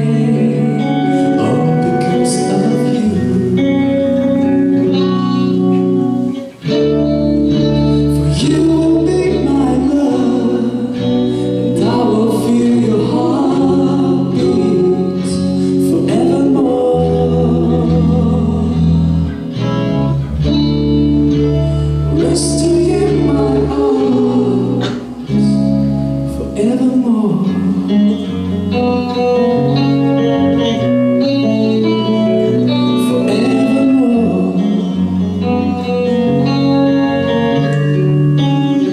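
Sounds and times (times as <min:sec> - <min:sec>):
bass guitar: 0:00.0 - 0:38.9
drums: 0:00.0 - 0:38.9
electric guitar: 0:00.0 - 0:38.9
person singing: 0:00.0 - 0:38.9.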